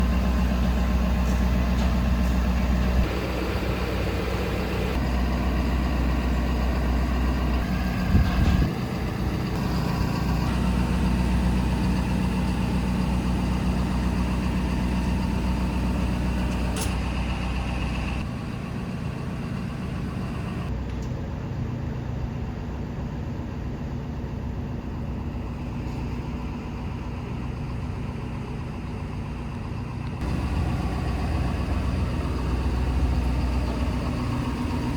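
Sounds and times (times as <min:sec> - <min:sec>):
diesel truck engine idling: 0:00.0 - 0:20.8, 0:22.6 - 0:34.9.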